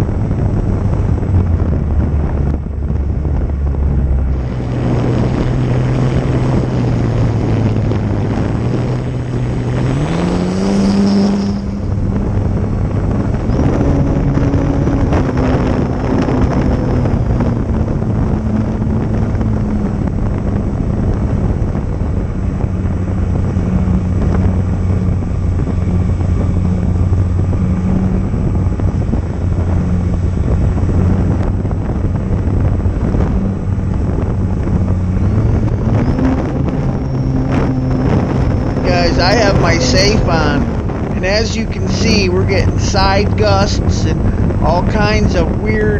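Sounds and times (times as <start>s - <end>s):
wind noise: 0.0s - 45.9s.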